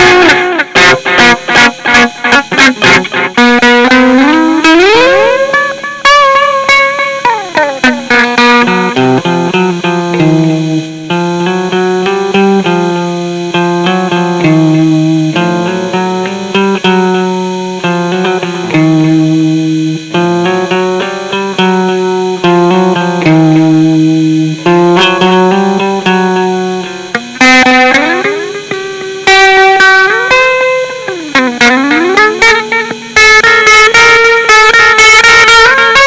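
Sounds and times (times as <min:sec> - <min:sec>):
plucked guitar riff: 0:00.0 - 0:36.0.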